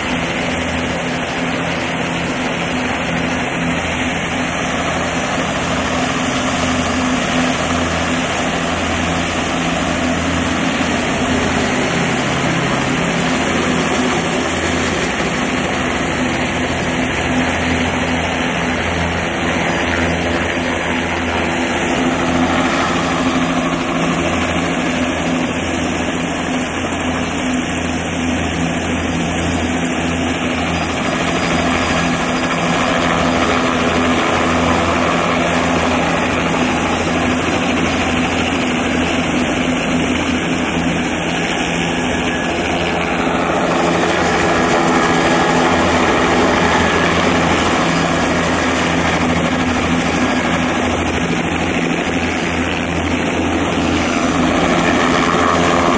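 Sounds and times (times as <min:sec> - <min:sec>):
helicopter rotor chop: 0:00.0 - 0:55.9
turbine engine whine: 0:00.0 - 0:55.9.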